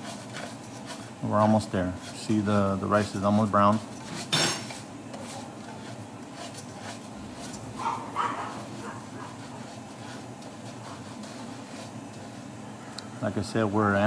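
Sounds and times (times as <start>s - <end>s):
dry rice stirred in a pan: 0.0s - 14.0s.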